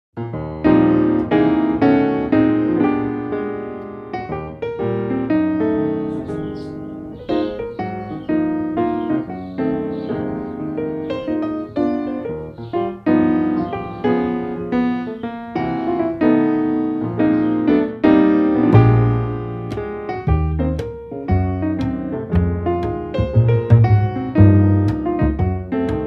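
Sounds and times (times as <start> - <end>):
deep bass piano notes: 0.2 - 26.0
piano music: 0.2 - 26.0.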